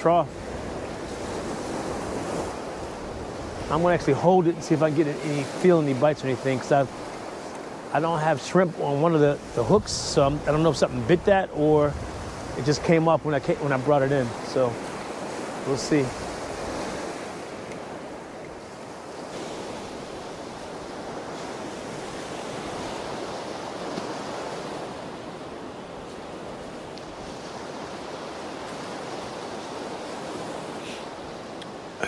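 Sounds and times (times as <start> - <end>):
surf breaking on beach: 0.0 - 32.0.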